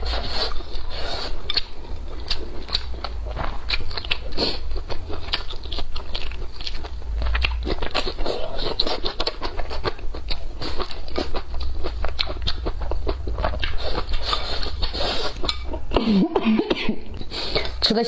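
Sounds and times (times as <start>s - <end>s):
chewing crunchy food: 0.0s - 16.2s
low hum: 0.0s - 18.0s.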